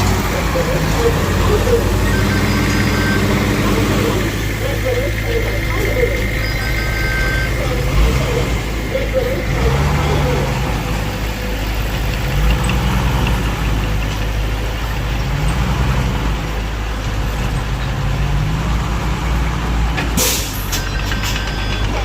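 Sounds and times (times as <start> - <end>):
heavy diesel engines revving: 0.0 - 22.0.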